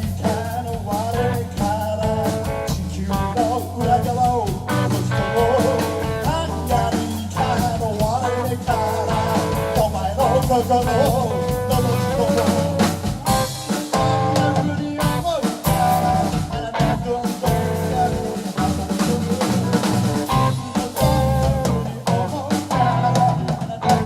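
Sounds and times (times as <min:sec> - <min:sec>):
drum kit beat: 0:00.0 - 0:24.0
electric guitar: 0:00.0 - 0:24.0
live rock band playing: 0:00.0 - 0:24.0.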